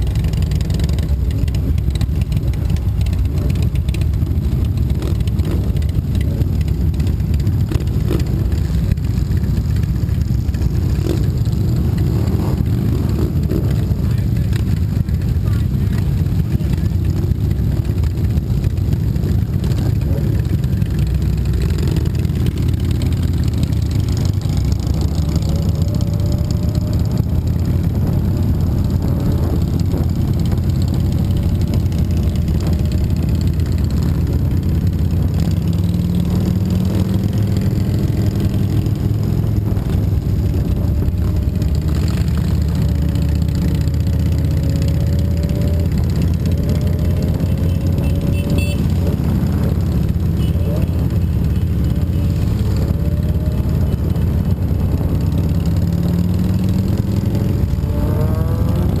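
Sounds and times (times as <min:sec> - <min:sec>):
motorcycle engines running: 0:00.0 - 0:59.0.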